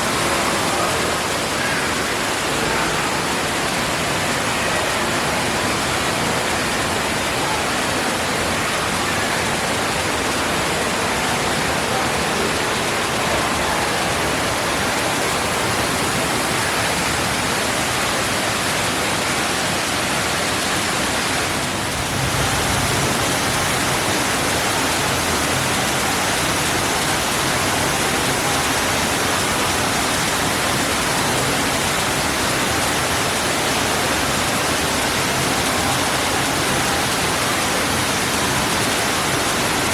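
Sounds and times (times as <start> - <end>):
waterfall pouring into pool: 0.0 - 39.9.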